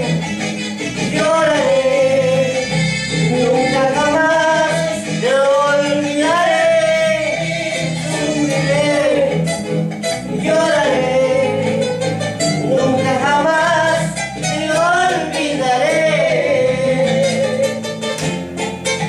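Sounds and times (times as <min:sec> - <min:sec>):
man singing: 0:00.0 - 0:18.1
band accompaniment: 0:00.0 - 0:19.0.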